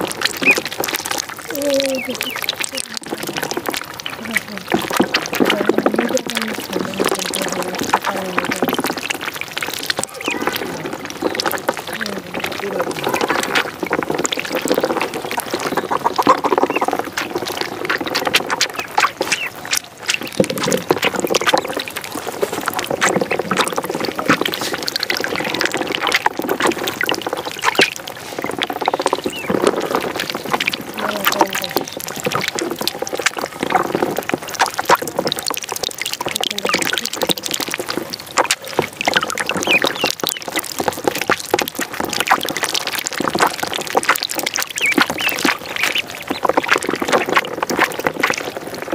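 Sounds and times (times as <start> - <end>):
ducklings peeping: 0.0 - 35.6, 36.2 - 37.7, 38.4 - 48.6.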